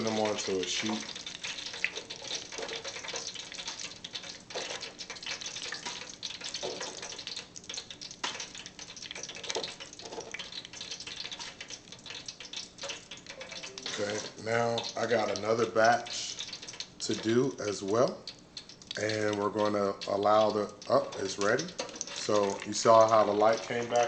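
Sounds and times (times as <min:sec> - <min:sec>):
hot oil crackling in fryer: 0:00.0 - 0:24.0.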